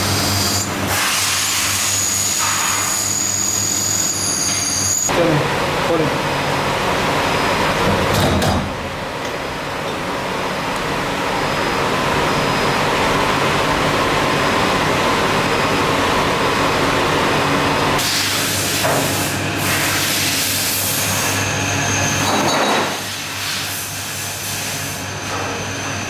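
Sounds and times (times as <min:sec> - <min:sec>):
factory machinery noise: 0:00.0 - 0:26.0.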